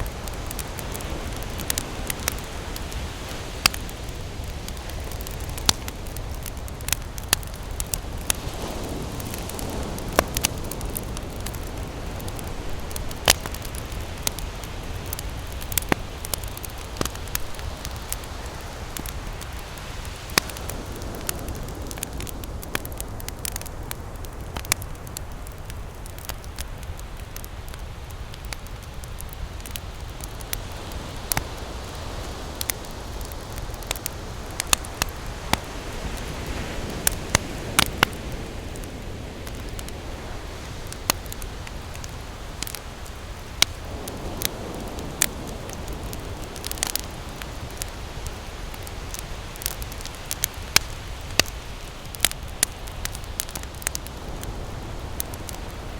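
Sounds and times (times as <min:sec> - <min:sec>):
campfire crackling and popping: 0:00.0 - 0:55.9
ocean surf rumble: 0:00.0 - 0:55.9.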